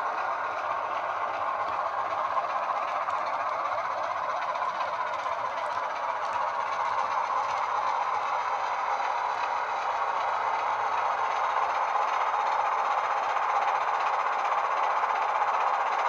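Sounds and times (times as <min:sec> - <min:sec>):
model locomotive diesel engine sound: 0:00.0 - 0:16.0.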